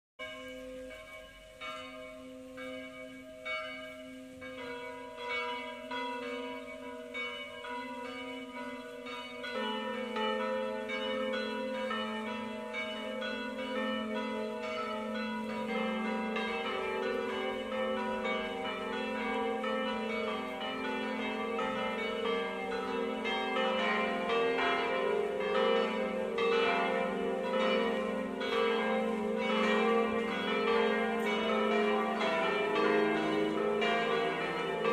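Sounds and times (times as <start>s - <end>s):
church bells pealing: 0.2s - 34.9s.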